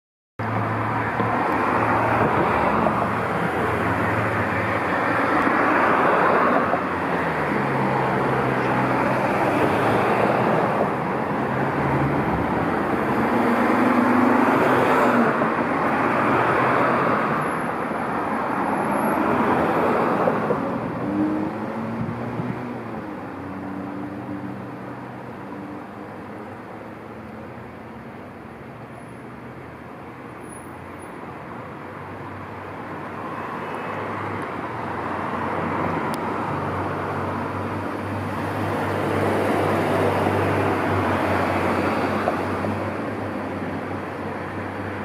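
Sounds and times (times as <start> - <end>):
cars passing: 0.4 - 45.0.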